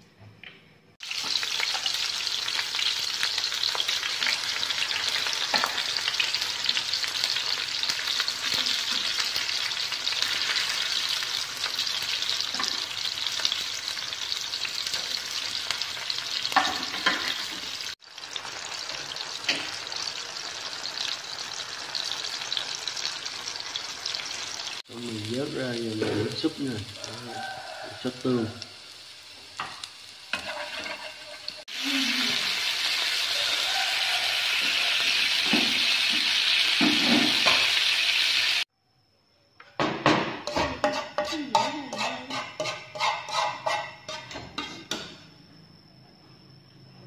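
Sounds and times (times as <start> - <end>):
oil sizzling in a pan: 1.0 - 38.7, 40.0 - 45.1.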